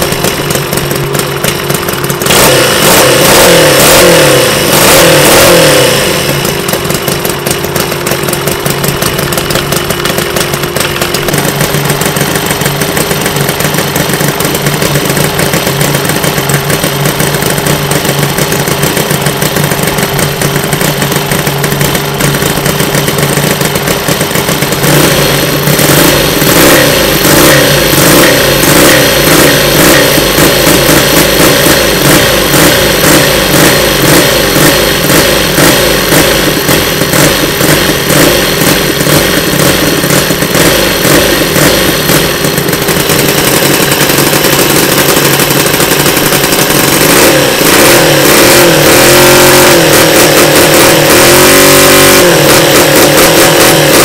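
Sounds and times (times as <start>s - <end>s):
model engine idling and revving: 0.0s - 54.0s.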